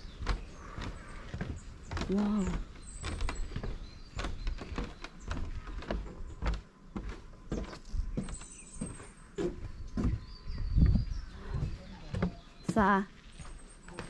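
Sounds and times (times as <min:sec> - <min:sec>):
footsteps on hiking trail: 0:00.0 - 0:14.0.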